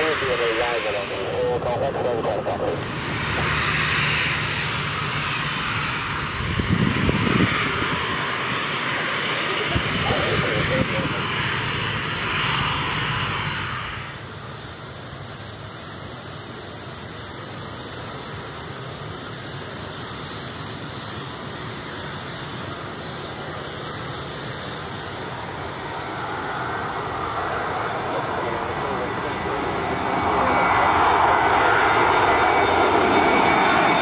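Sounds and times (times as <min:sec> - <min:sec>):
aircraft engine rush: 0:00.0 - 0:34.0
faint high whine: 0:00.0 - 0:34.0.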